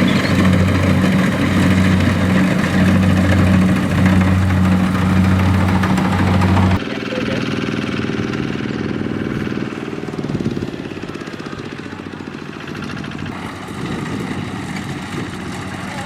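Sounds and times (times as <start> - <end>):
combine harvester running: 0.0 - 16.0.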